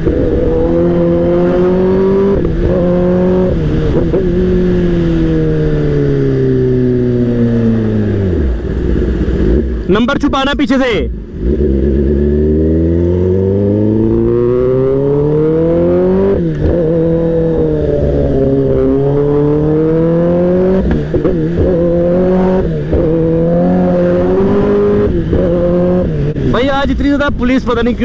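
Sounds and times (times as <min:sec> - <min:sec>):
motorcycle engine accelerating: 0:00.0 - 0:10.0, 0:11.0 - 0:26.8.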